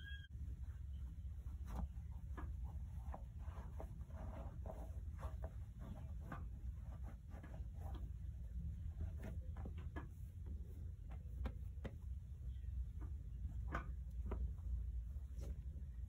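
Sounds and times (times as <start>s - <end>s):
cloth rustling against leather: 0.5s - 12.2s, 13.1s - 16.0s.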